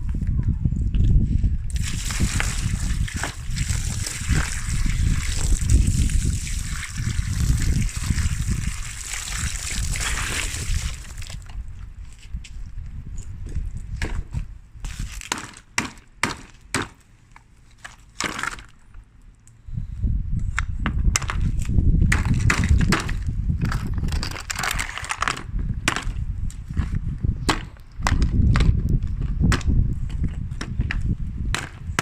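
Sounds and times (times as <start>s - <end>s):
steady low rumble: 0.0s - 15.0s, 18.8s - 32.0s.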